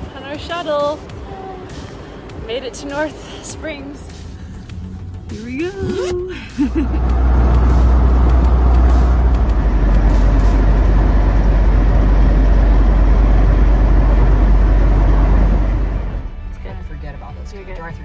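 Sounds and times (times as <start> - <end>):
road and wind noise in car: 0.0 - 16.8.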